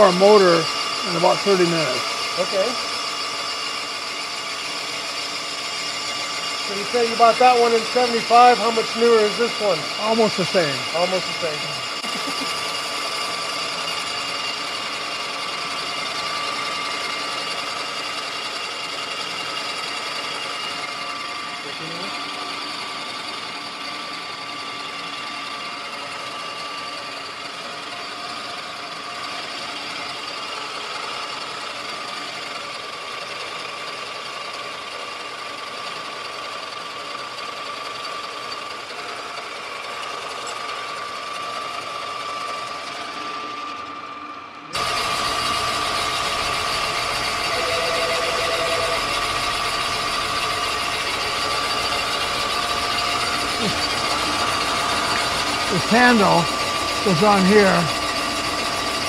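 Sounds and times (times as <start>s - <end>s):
boring machine hum and whine: 0.0s - 59.0s.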